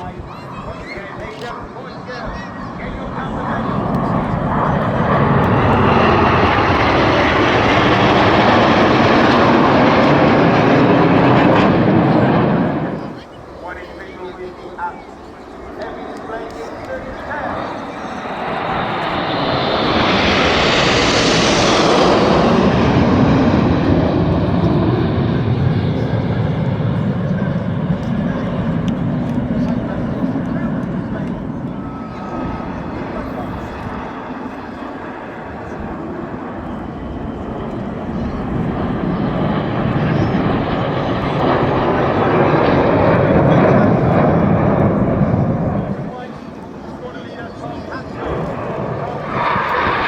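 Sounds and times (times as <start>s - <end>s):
jets making a low pass: 0.0s - 50.0s.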